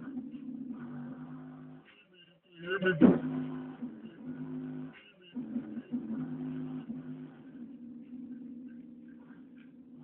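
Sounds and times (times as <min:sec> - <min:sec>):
music with held bass notes: 0:00.0 - 0:10.0.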